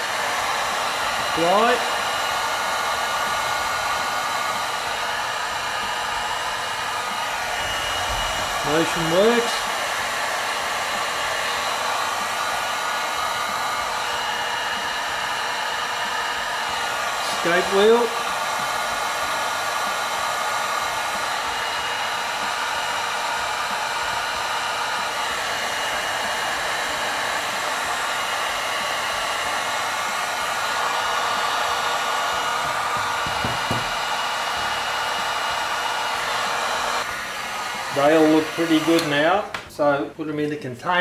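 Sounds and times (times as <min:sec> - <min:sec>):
heat gun blowing air: 0:00.0 - 0:39.8.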